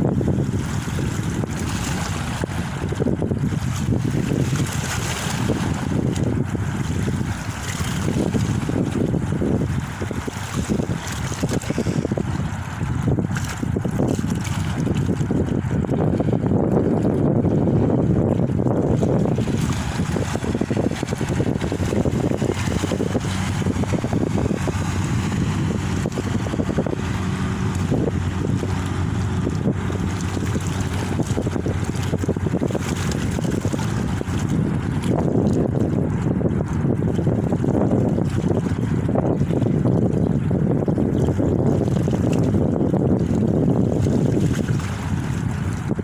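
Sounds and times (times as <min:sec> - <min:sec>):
water splashing: 0:00.0 - 0:46.0
wind buffeting microphone: 0:00.0 - 0:46.0.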